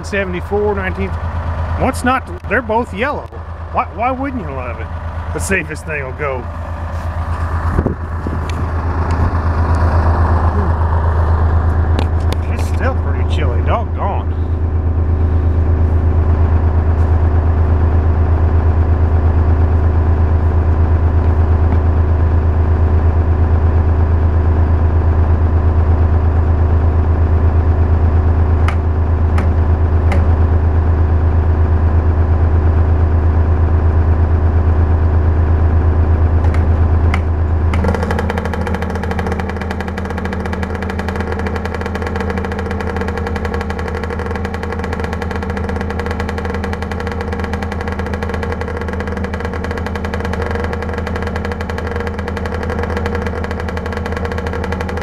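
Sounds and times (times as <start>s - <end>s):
engine running in background: 0.0s - 55.0s
motorcycle engine idling: 0.0s - 55.0s.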